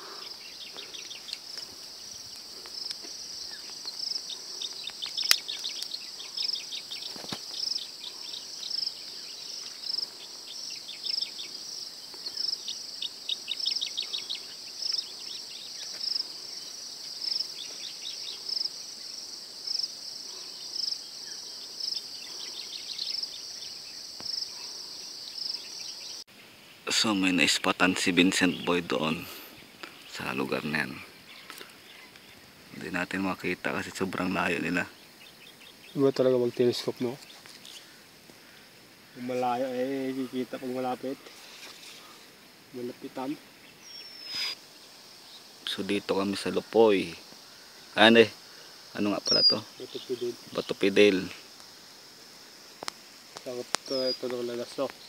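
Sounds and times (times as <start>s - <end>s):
insects chirring: 0.0s - 55.0s
rapid ticking insect calls: 0.0s - 55.0s.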